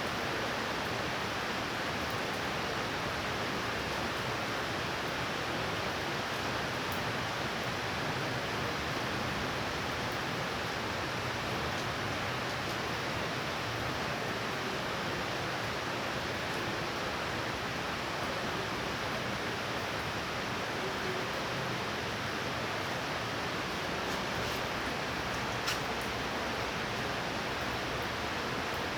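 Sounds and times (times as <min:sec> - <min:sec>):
heavy rain downpour: 0:00.0 - 0:28.9.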